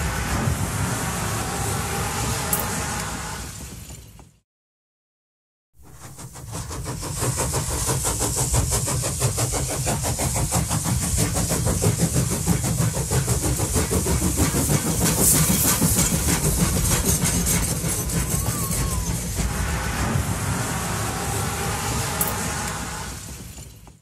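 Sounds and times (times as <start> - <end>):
train running: 0.0 - 4.4, 5.8 - 24.0.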